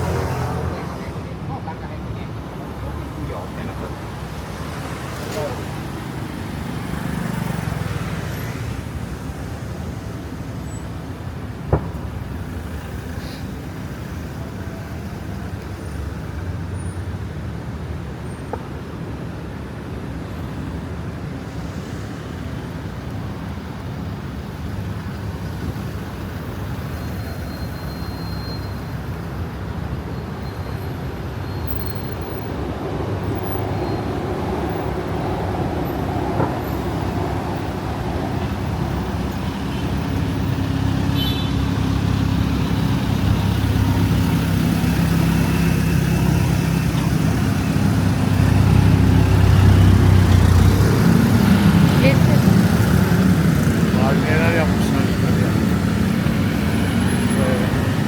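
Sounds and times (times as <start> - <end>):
passing vehicles and tyres: 0.0 - 58.0.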